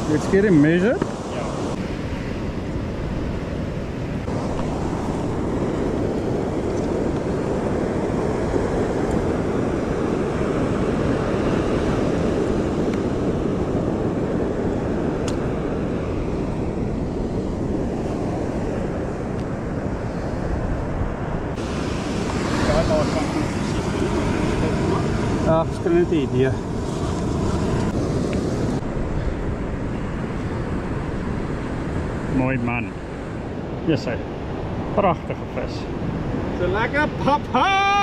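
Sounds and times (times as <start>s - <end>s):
wind on microphone: 0.0s - 37.5s
surf washing on beach: 0.0s - 38.0s.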